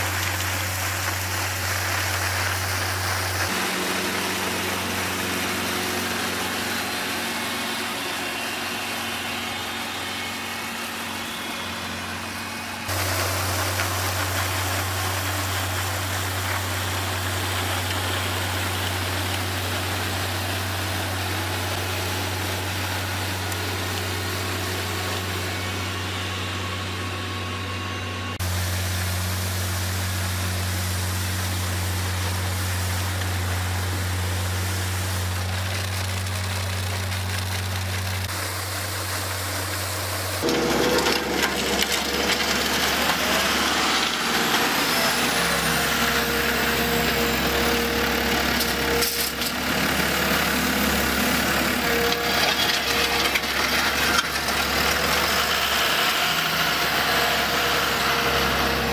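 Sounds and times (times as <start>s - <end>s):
rotary brushes hissing on paving: 0.0s - 25.7s, 28.4s - 58.9s
tractor diesel engine running: 0.0s - 58.9s.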